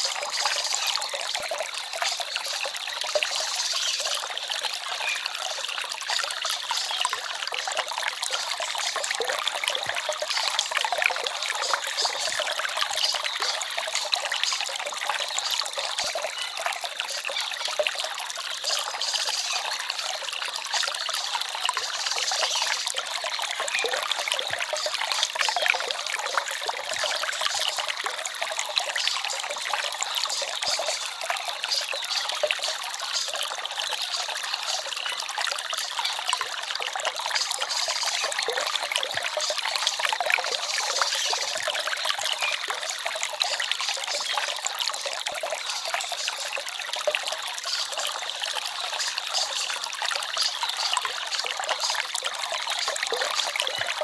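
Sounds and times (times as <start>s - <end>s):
stream trickling and babbling: 0.0s - 54.0s.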